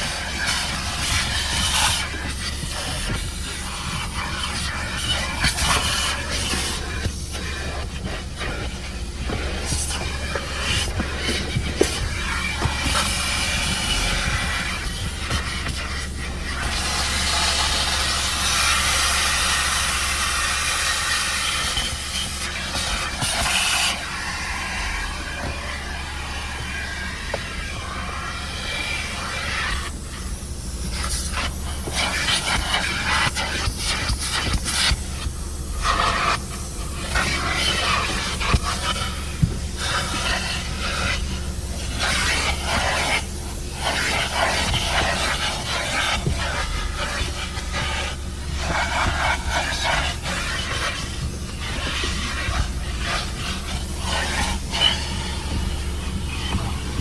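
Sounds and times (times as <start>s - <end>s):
low motor hum: 0.0s - 57.0s
vacuum hose rushing hiss: 0.0s - 57.0s.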